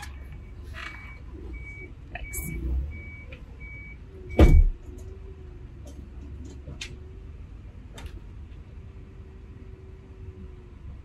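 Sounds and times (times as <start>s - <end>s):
vehicle rumble inside cab: 0.0s - 11.0s.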